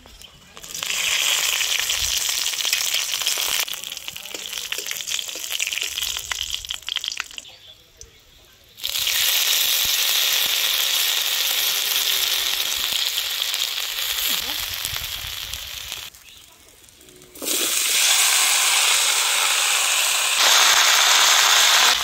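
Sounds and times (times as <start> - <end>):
hot oil sizzling and popping: 0.0 - 22.0
loud steady sizzle: 0.2 - 22.0.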